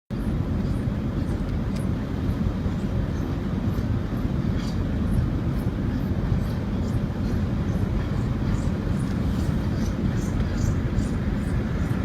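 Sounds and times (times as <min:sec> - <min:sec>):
vehicle rumbling: 0:00.1 - 0:12.0.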